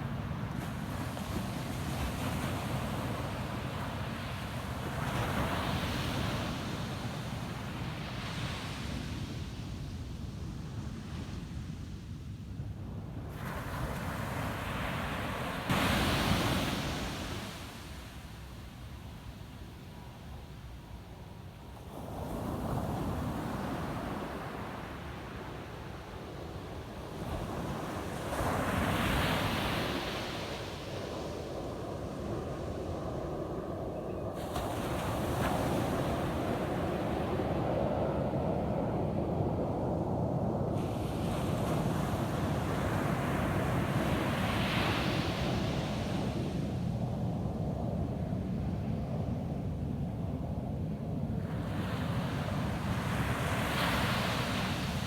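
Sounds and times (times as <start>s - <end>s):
ocean surf on sandy beach: 0.0s - 11.5s, 13.2s - 20.0s, 21.7s - 55.0s.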